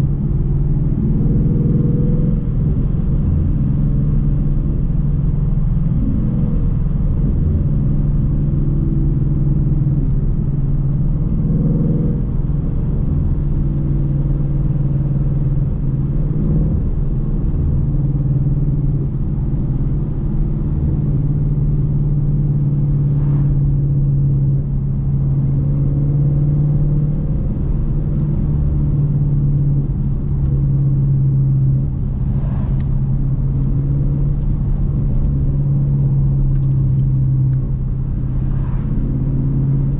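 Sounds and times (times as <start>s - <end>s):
car engine low drone: 0.0s - 39.9s.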